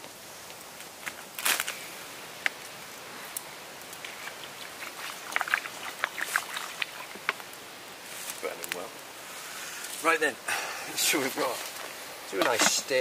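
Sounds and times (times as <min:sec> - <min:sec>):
sharp crackles and pops: 0:00.0 - 0:13.0.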